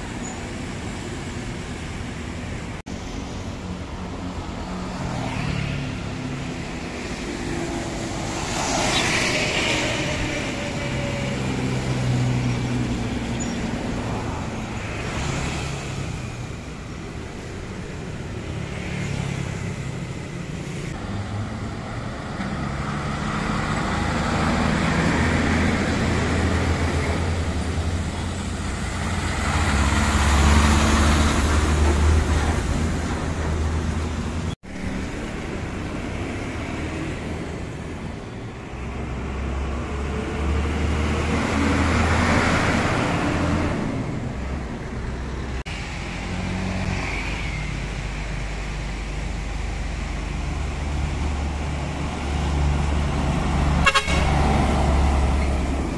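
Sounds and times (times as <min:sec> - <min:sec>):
diesel trucks driving past: 0:00.0 - 0:55.9
steady road traffic: 0:00.0 - 0:55.9.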